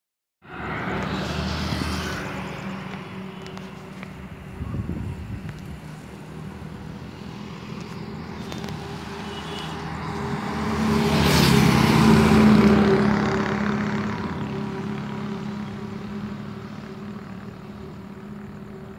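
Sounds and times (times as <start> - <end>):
vehicles passing by: 0.4 - 18.9.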